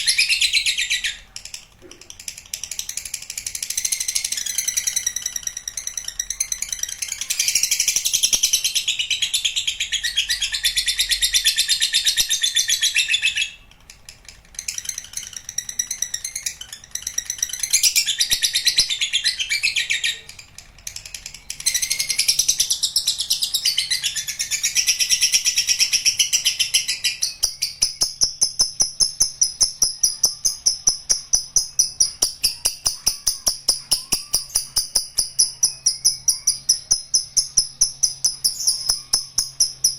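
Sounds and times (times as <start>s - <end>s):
lovebird chattering trill: 0.0s - 39.9s
regular pulsing bird call: 0.0s - 39.9s.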